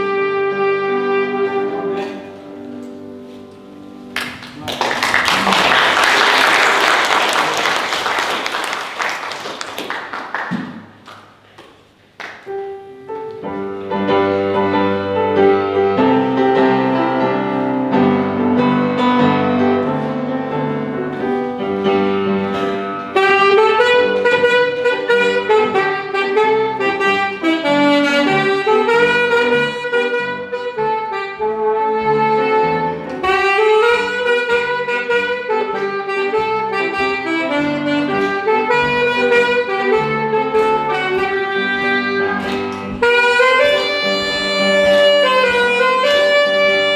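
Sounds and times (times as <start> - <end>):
saxophone melody: 0.0 - 4.1, 13.0 - 46.9
sustained piano chords: 0.0 - 6.2, 12.5 - 46.9.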